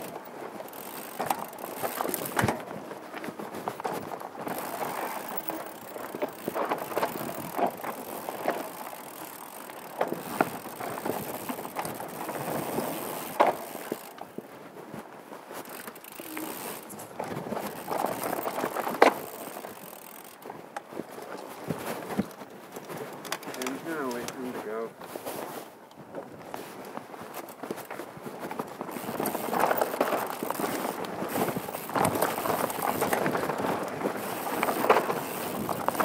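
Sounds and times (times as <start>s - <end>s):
bike rattling: 0.0s - 36.0s
bike tyres rolling over stones: 0.0s - 36.0s.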